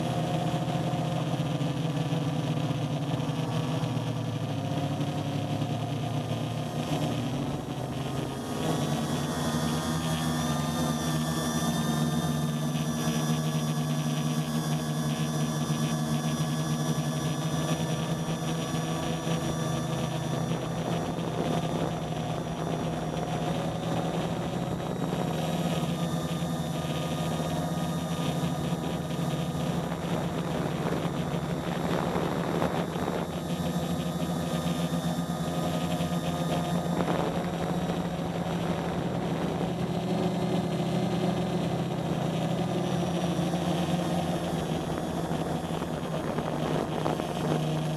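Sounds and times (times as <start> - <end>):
drone motors humming: 0.0 - 47.9.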